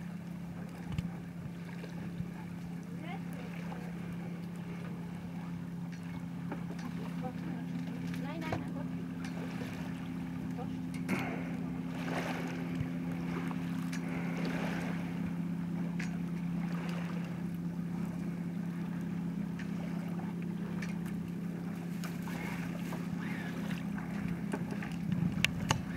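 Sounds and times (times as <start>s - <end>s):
steady low hum: 0.0s - 25.9s
water washing along boat hull: 0.0s - 25.9s.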